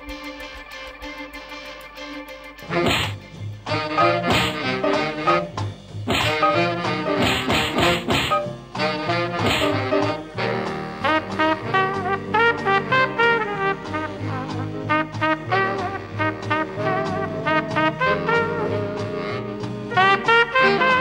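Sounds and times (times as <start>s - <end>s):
swing jazz with brass: 2.6s - 21.0s.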